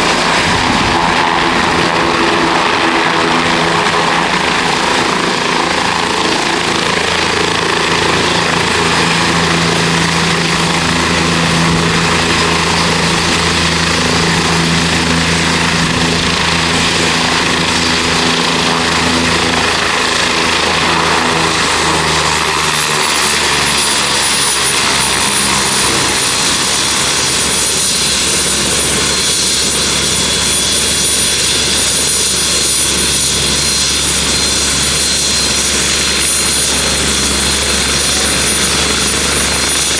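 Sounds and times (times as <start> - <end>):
helicopter rotor hum: 0.0 - 39.9
helicopter turbine whine: 0.0 - 39.9.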